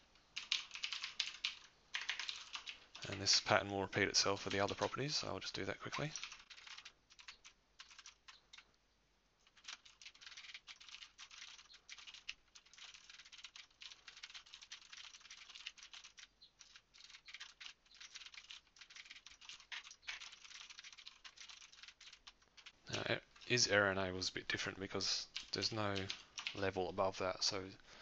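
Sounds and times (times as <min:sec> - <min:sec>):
fast typing on a keyboard: 0:00.4 - 0:08.7, 0:09.4 - 0:22.8, 0:25.2 - 0:26.8.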